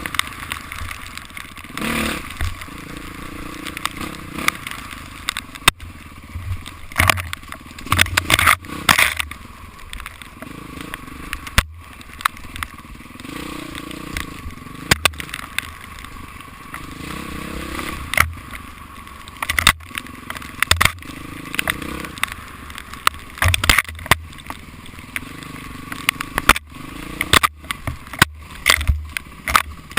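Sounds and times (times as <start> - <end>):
bike knocking over rough ground: 0.0 - 29.9
dirt bike engine: 0.0 - 29.9.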